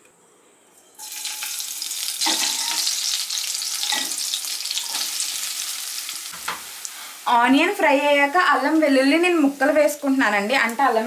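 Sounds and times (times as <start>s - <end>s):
chillies sizzling in hot oil: 1.0s - 11.0s.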